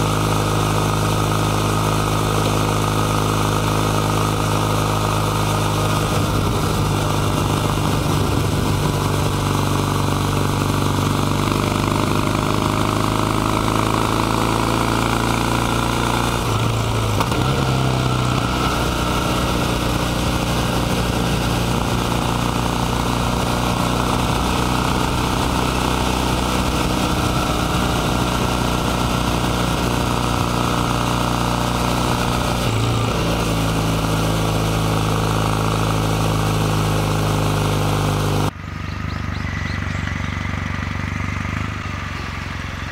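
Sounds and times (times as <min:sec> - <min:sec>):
motorcycle engine running: 0:00.0 - 0:42.9
road and wind noise: 0:00.0 - 0:42.9.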